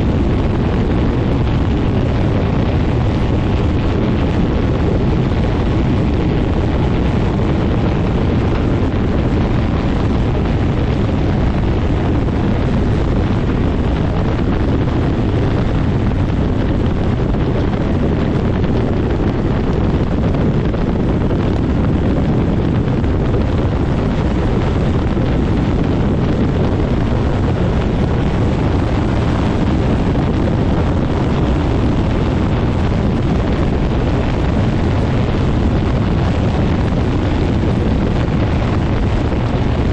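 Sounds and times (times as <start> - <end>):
ultralight engine and propeller: 0.0 - 39.9
wind buffeting microphone: 0.0 - 39.9.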